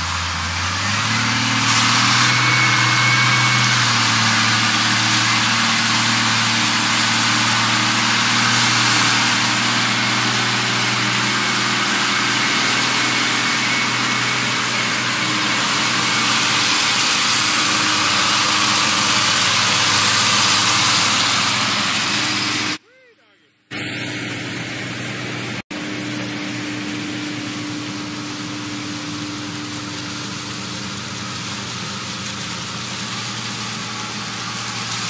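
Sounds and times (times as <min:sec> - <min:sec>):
loud even hiss: 0:00.0 - 0:22.8, 0:23.7 - 0:35.0
tractor diesel engine running: 0:00.0 - 0:35.0.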